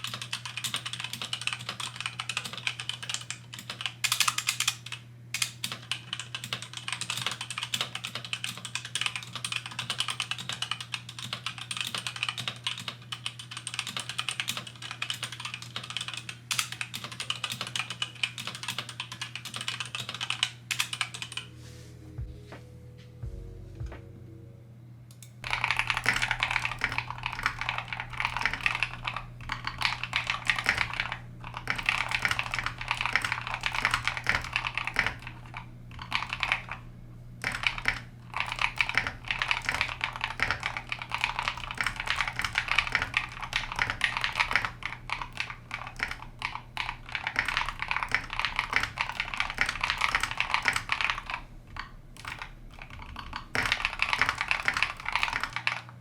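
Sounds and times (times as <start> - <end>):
mechanical keyboard typing: 0.0 - 21.5, 25.2 - 56.0.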